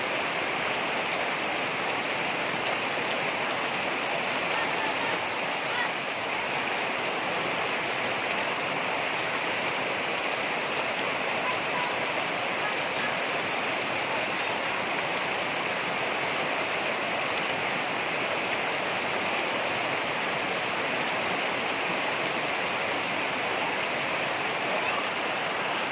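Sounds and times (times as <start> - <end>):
water rushing over rocks: 0.0 - 25.9.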